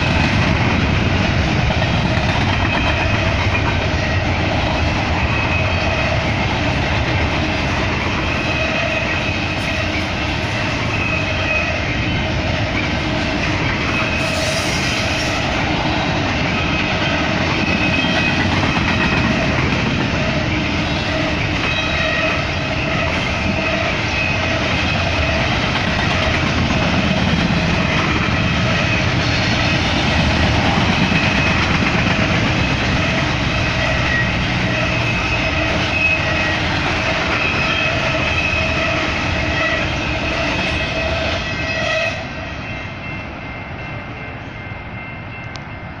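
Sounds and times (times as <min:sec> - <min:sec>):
freight train wheel rumble: 0:00.0 - 0:46.0.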